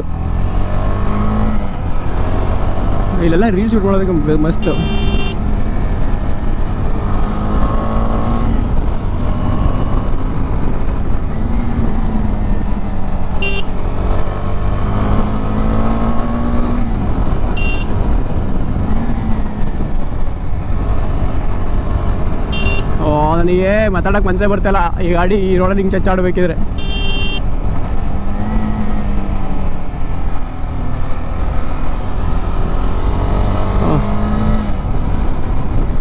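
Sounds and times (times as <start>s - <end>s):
motorcycle engine cruising: 0.0s - 36.0s
wind rush on microphone: 5.4s - 26.7s, 27.4s - 36.0s.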